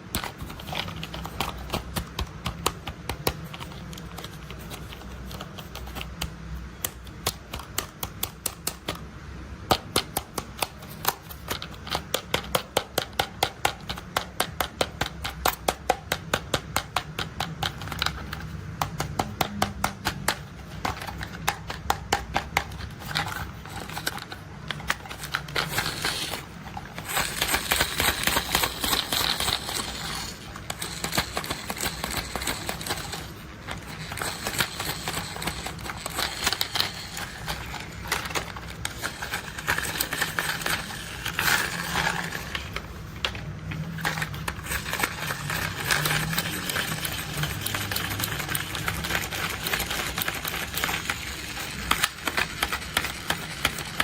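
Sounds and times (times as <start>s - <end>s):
plastic toys clicking and rattling: 0.0s - 9.1s, 9.7s - 54.0s.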